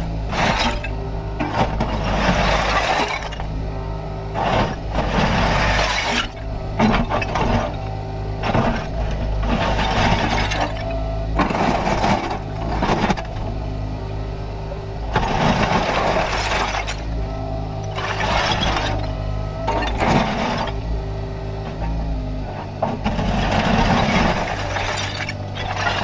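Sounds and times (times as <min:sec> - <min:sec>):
excavator diesel engine running: 0:00.0 - 0:26.0
noisy working bursts: 0:00.0 - 0:26.0.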